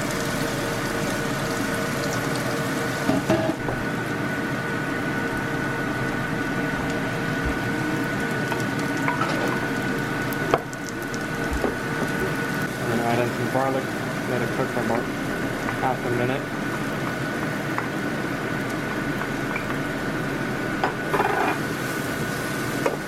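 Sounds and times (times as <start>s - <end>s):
onions sizzling in a skillet: 0.0s - 23.0s.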